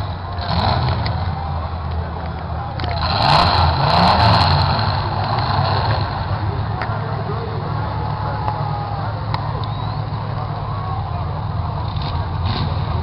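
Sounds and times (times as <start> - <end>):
car engines revving: 0.0 - 13.0
crowd noise: 0.0 - 13.0.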